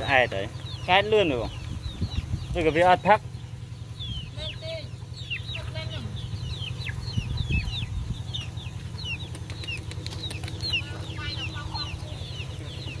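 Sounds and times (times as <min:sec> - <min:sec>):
chickens peeping: 0:00.0 - 0:13.0
low rumble: 0:00.0 - 0:13.0.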